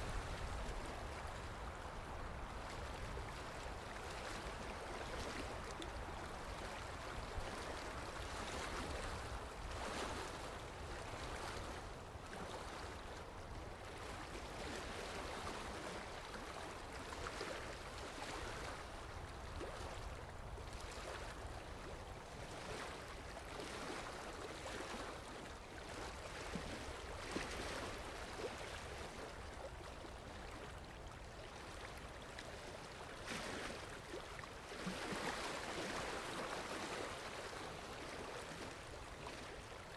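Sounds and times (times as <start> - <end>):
small water splashes: 0.0 - 39.9.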